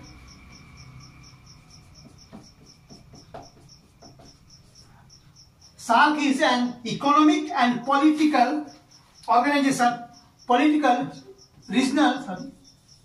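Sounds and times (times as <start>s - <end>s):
marker squeaking on whiteboard: 1.3s - 5.9s, 7.0s - 13.0s.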